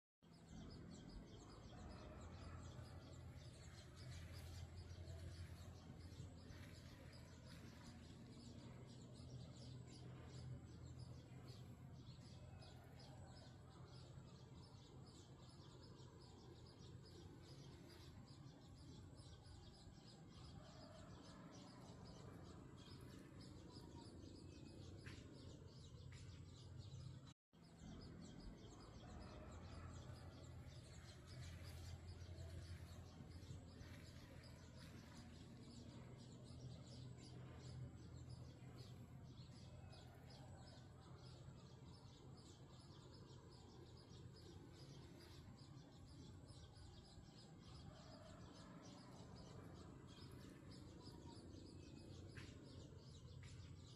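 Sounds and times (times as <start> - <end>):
small birds chirping: 0.2 - 53.9
low hum: 0.3 - 19.4, 20.6 - 46.5.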